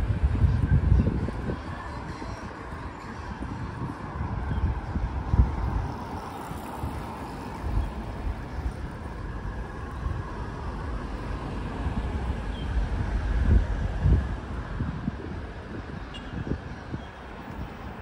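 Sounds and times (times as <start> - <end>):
busy street traffic: 0.0 - 18.0.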